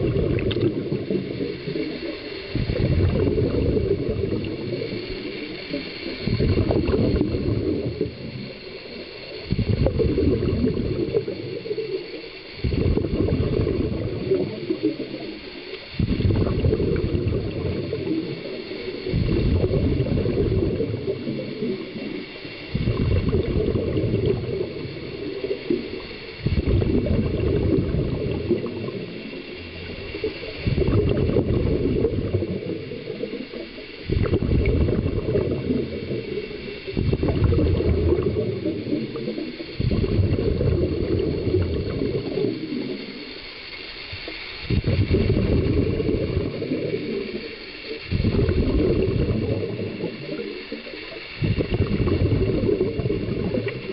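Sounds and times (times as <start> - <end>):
exhaled breath bubbling underwater: 0.0 - 53.9.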